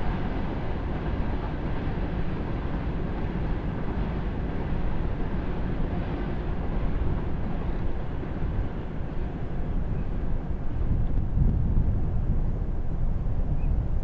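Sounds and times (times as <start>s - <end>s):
passing train rumbling: 0.0s - 14.0s.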